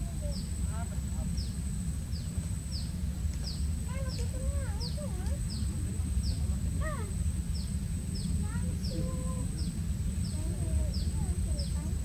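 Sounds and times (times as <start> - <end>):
lower wavering bird calls: 0.0 - 12.0.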